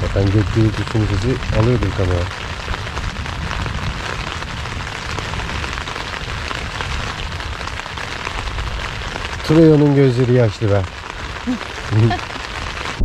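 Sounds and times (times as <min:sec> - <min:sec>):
heavy rain pouring: 0:00.0 - 0:13.0
low rumble: 0:00.0 - 0:13.0.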